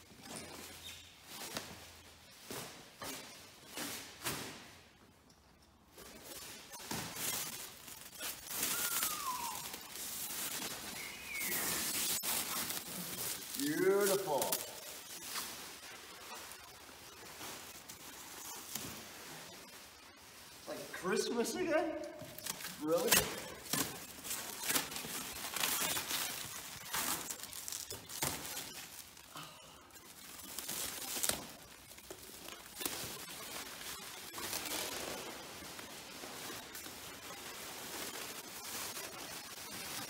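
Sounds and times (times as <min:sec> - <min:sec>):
plastic film squeaks: 0:00.0 - 0:04.8, 0:05.9 - 0:40.0
plastic stretch wrap crackling: 0:05.9 - 0:40.0.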